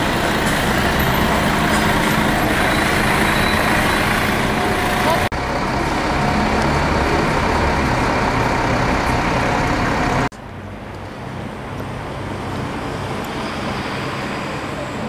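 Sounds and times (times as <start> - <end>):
heavy vehicle engine humming: 0.0 - 15.0
traffic noise: 0.0 - 15.0.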